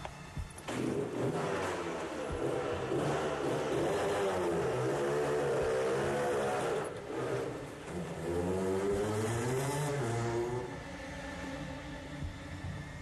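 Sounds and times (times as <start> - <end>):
motorcycle engine revving: 0.4 - 10.9.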